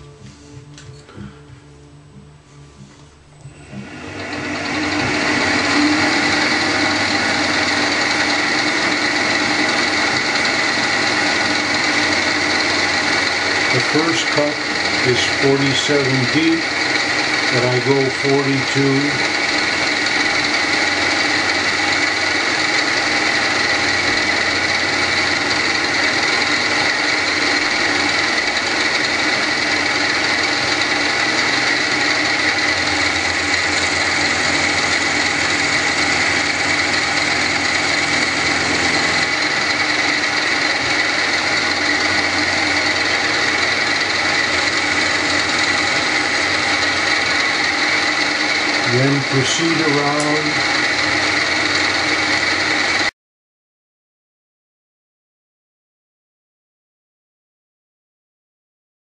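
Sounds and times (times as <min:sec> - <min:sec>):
milling machine spindle whining: 0:02.8 - 0:53.1.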